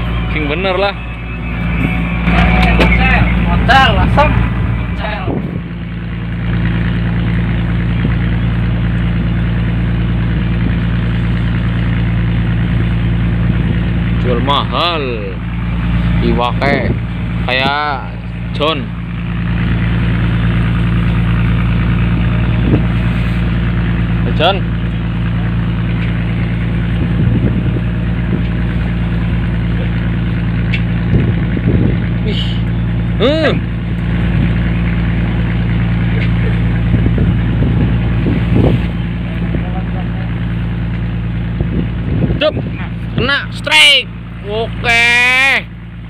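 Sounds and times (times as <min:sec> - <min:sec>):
boat engine humming: 0:00.0 - 0:46.0.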